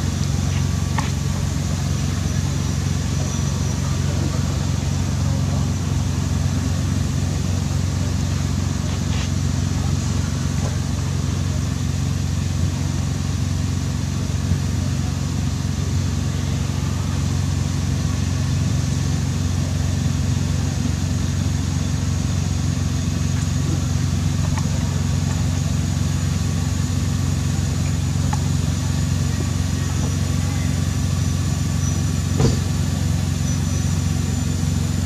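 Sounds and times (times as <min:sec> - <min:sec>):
steady low drone: 0:00.0 - 0:35.0.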